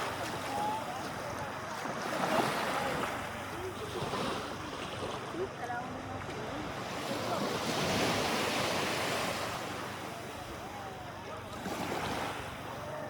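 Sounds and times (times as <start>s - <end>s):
sea waves on a beach: 0.0s - 13.0s.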